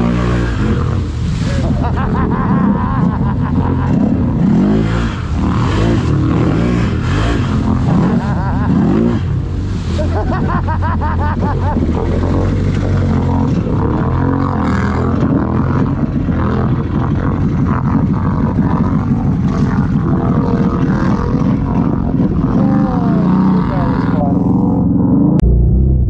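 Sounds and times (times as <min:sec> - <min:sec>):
water and mud splashing: 0:00.0 - 0:24.8
atv engine revving: 0:00.0 - 0:26.0.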